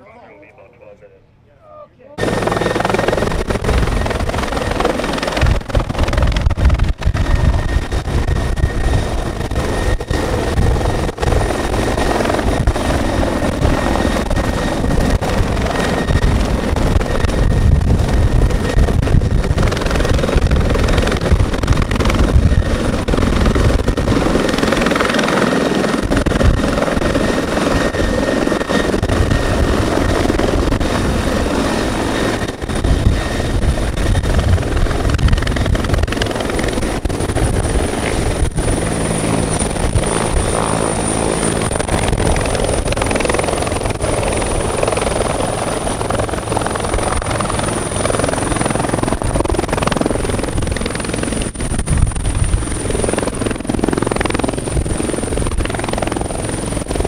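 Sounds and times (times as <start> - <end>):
steady high whine: 0.0 - 57.0
helicopter rotor and turbine: 2.2 - 57.0.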